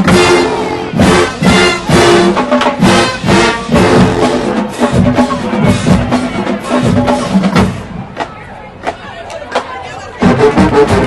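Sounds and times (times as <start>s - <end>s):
marching band playing: 0.0s - 11.0s.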